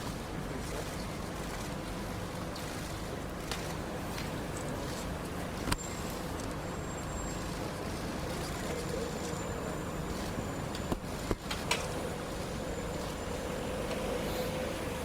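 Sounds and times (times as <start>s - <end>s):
heavy engines rumbling: 0.0s - 15.0s
faint steady drone: 0.1s - 15.0s.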